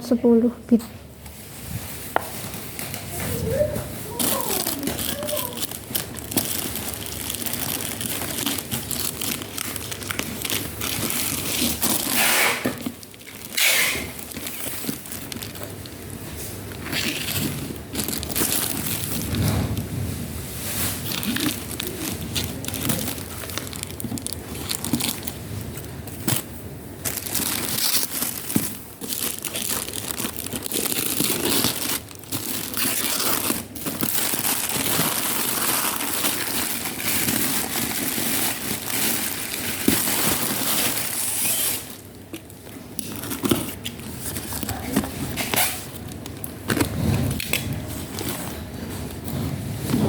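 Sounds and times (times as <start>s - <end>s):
packaging crinkling and rustling: 1.2s - 50.0s.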